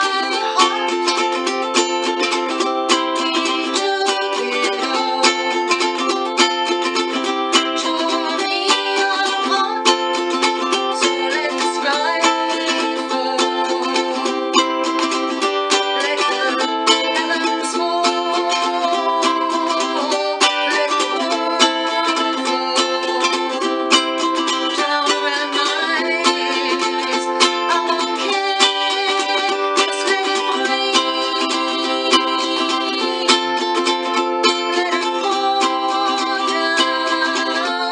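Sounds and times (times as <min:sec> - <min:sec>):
ukulele strummed in chords: 0:00.0 - 0:37.9
woman singing: 0:00.0 - 0:37.9.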